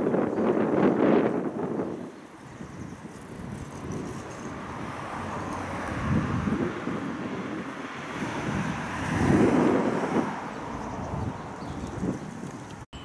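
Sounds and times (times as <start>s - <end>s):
wind gusts on microphone: 0.0s - 12.9s.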